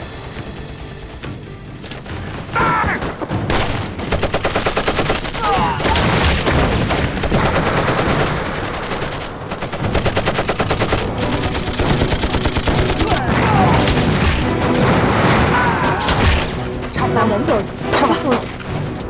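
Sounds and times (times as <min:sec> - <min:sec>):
machine guns firing bursts: 0:00.0 - 0:15.5.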